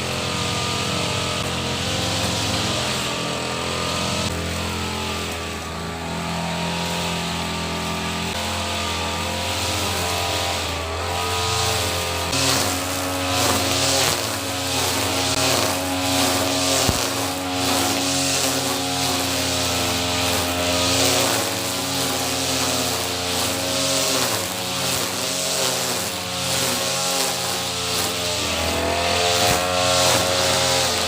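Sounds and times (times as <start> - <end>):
brush cutter engine cutting grass: 0.0 - 31.0.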